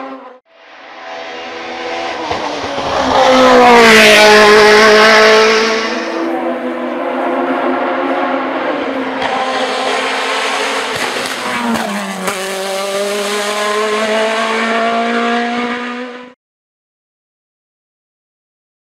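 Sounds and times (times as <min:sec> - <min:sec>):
race car engine passing: 0:00.0 - 0:16.4.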